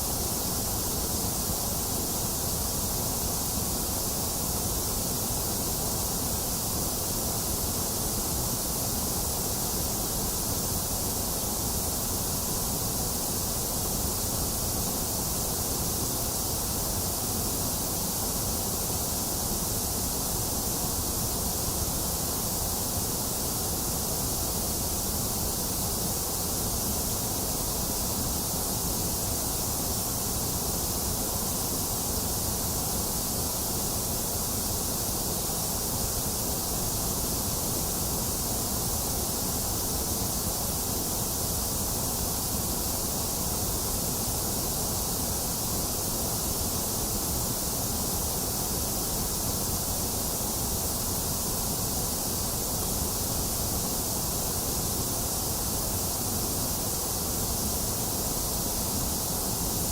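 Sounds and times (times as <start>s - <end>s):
electronic white noise hiss: 0.0s - 59.9s.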